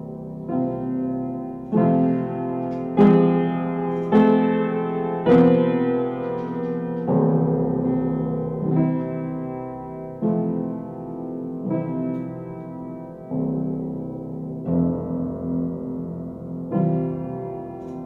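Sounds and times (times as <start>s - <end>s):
slow piano chords ringing: 0.0s - 18.0s.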